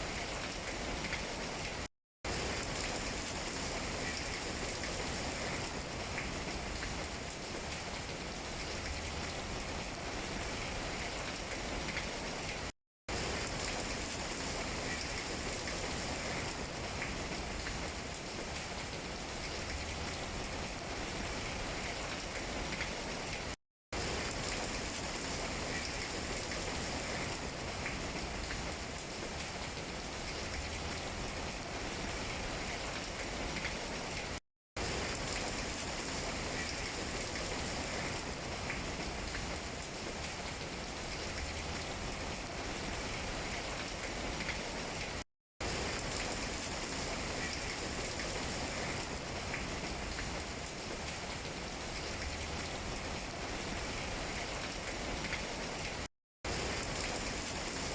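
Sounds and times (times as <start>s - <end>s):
rain falling on leaves: 0.0s - 57.9s.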